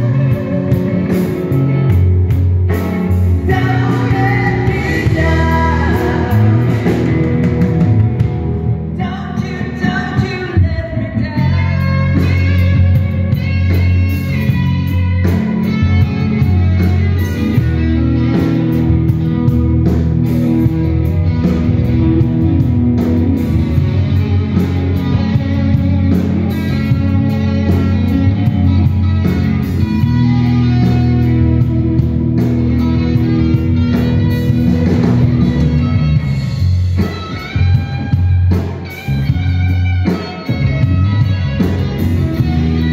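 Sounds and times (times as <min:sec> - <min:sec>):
bass guitar: 0:00.0 - 0:42.9
drums: 0:00.0 - 0:42.9
electric guitars: 0:00.0 - 0:42.9.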